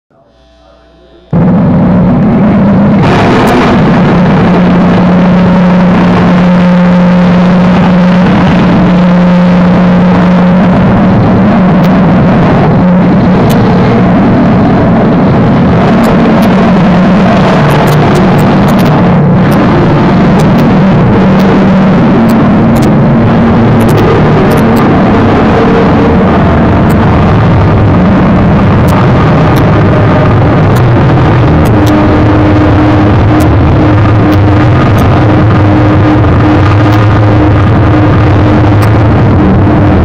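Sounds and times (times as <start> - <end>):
distorted wall of noise: 0.1 - 40.0
heavy low drone: 0.1 - 40.0
sharp crackles: 0.4 - 40.0.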